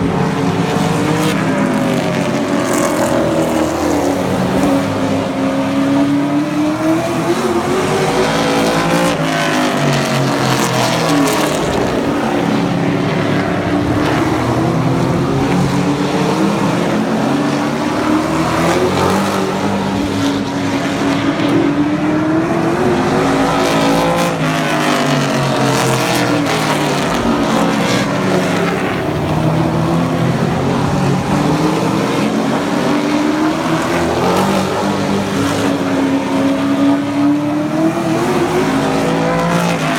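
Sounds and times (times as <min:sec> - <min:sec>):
race car engines racing: 0:00.0 - 0:39.9.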